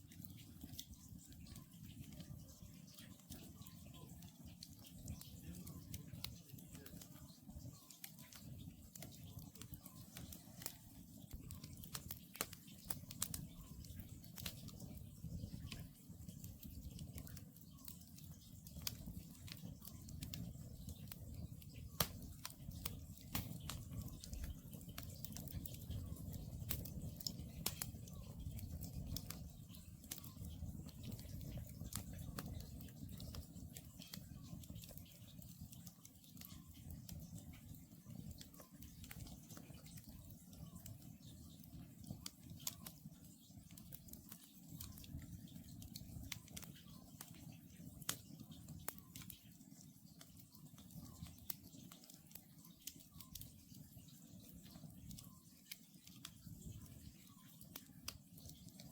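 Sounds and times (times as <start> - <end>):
burning wood crackling and popping: 0.0 - 58.9
campfire flames rushing: 0.1 - 58.9.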